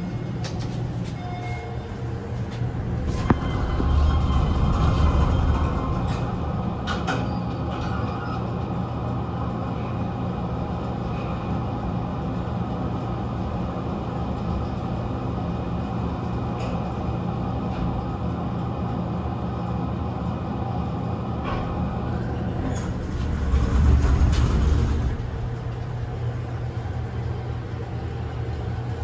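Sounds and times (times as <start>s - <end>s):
elevator machinery humming: 0.0s - 29.0s.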